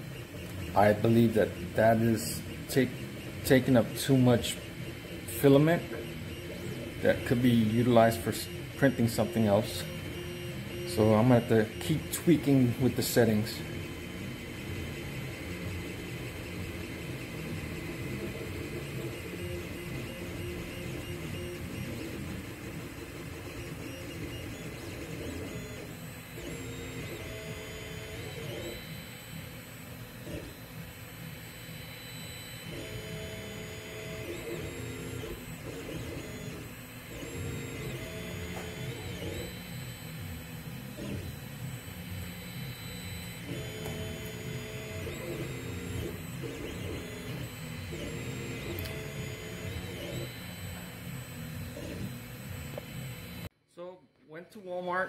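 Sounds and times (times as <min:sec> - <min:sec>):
cooling fan whirring: 0:00.0 - 0:53.5
stepper motors whining in tones: 0:00.0 - 0:53.5.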